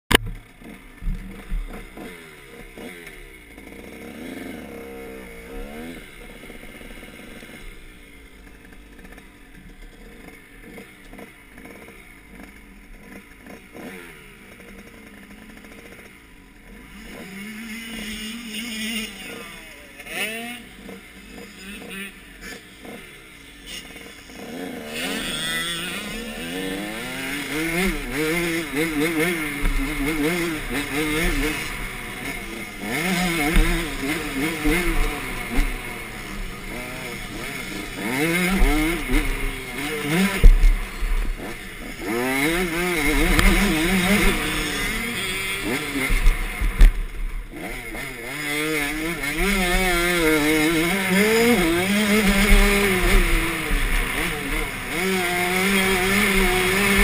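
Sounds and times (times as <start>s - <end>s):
motocross bike engine revving: 0.1s - 57.0s.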